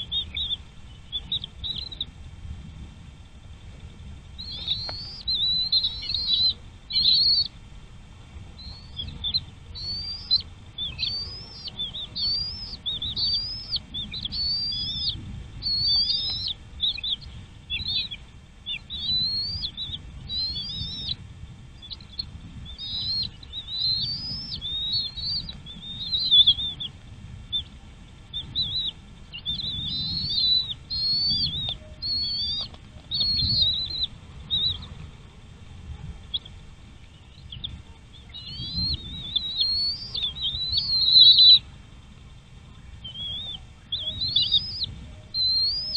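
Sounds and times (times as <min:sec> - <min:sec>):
low rumble: 0:00.0 - 0:45.6
small bird chirping: 0:00.0 - 0:45.9.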